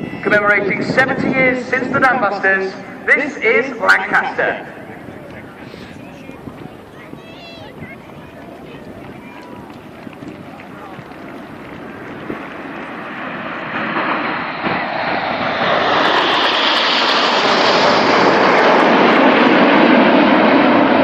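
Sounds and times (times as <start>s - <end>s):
jets flying past: 0.0s - 21.0s.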